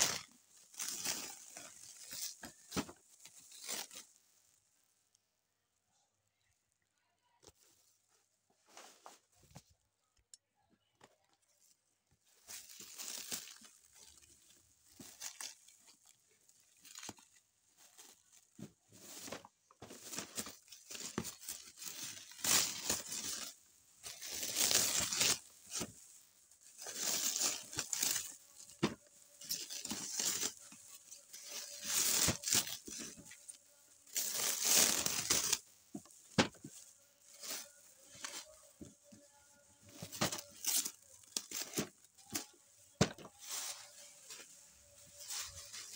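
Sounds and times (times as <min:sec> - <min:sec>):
plastic wrapping crinkling and tearing: 0:00.0 - 0:04.6, 0:12.3 - 0:45.9.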